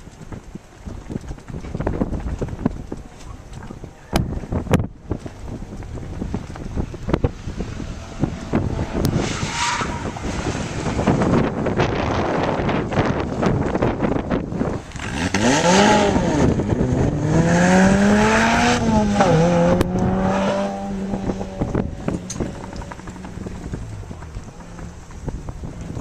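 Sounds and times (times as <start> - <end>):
wind buffeting microphone: 0.0 - 26.0
sports car engine running hard: 1.8 - 26.0.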